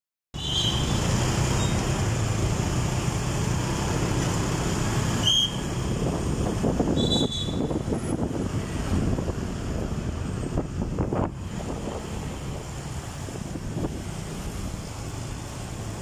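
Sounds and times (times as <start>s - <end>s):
cars running past: 0.4s - 16.0s.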